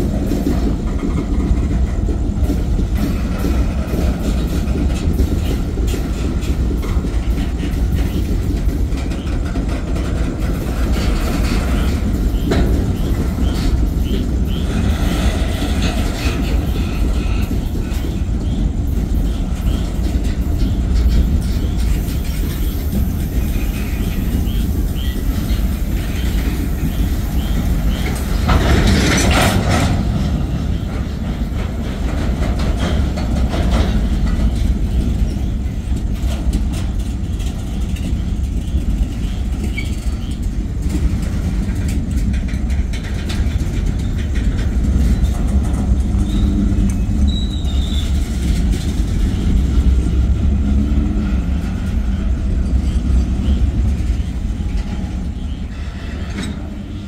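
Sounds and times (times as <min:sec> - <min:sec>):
freight train rumbling past: 0:00.0 - 0:57.0
wheels clicking over rail joints: 0:00.0 - 0:57.0.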